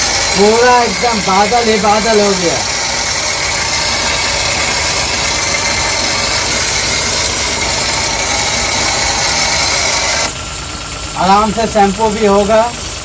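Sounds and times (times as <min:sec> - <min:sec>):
foam spray hissing: 0:00.0 - 0:10.4
pressure washer pump running: 0:00.0 - 0:13.0.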